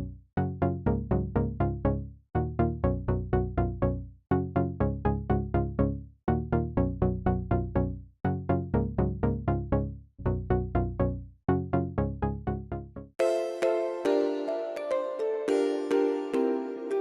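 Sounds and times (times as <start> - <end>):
plucked synthesizer electronic music: 0.0 - 17.0.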